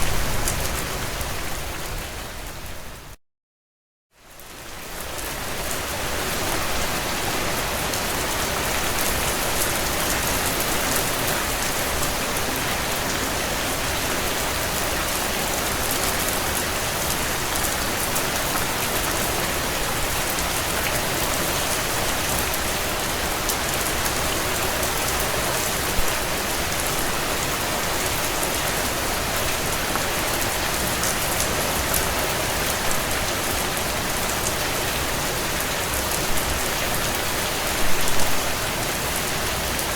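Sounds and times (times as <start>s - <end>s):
heavy rain on a tin roof: 0.0s - 3.2s, 4.2s - 39.9s.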